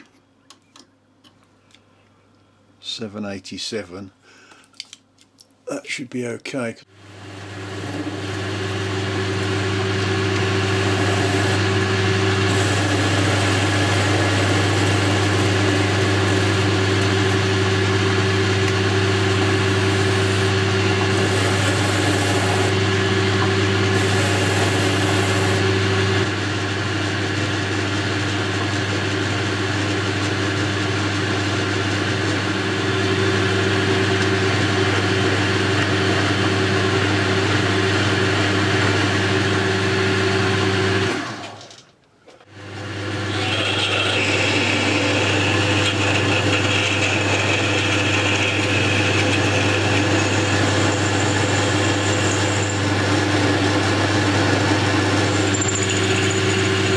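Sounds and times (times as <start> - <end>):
metal lathe running: 7.2 - 41.3, 42.6 - 56.9.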